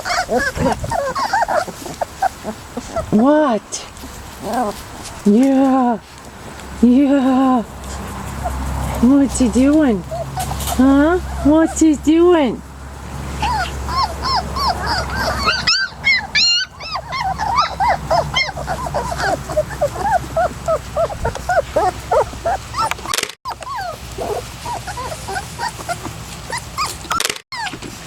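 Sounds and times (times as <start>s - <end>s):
puppies whimpering and yipping: 0.0s - 3.4s, 4.4s - 5.0s, 8.1s - 12.1s, 13.2s - 28.0s.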